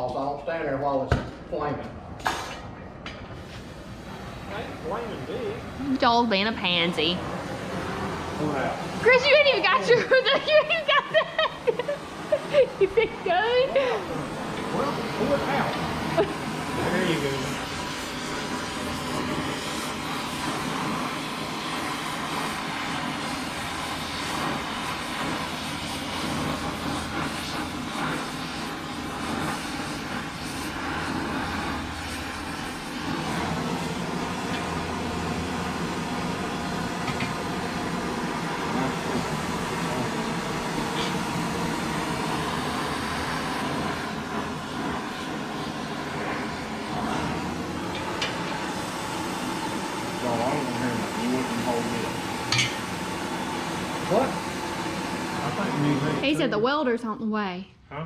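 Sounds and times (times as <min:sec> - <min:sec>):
steady machine noise: 0:03.4 - 0:57.4.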